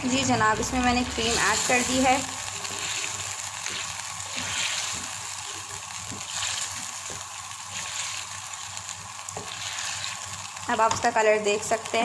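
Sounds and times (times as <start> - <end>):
sauce sizzling and bubbling in pan: 0.0 - 12.0.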